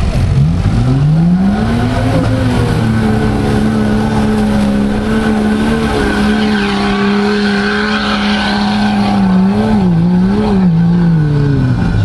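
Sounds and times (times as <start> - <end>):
churned mud and water rushing: 0.0 - 12.0
engine revving hard: 0.2 - 12.0.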